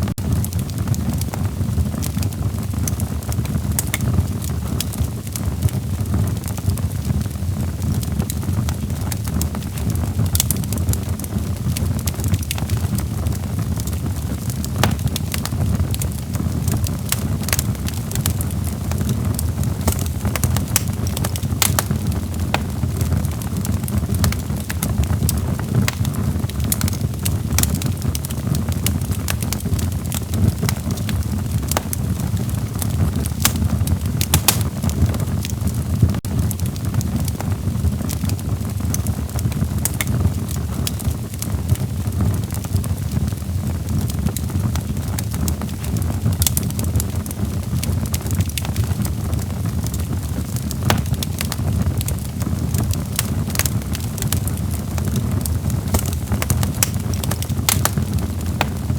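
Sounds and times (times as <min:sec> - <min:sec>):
fire rumbling: 0:00.0 - 0:58.9
wood crackling and popping: 0:00.0 - 0:58.9.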